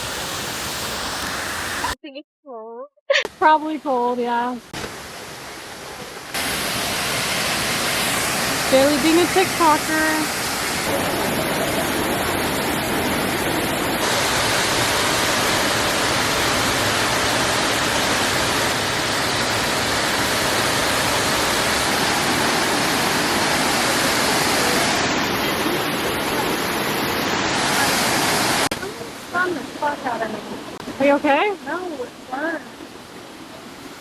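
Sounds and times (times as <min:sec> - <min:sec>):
waterfall rushing: 0:04.8 - 0:34.0.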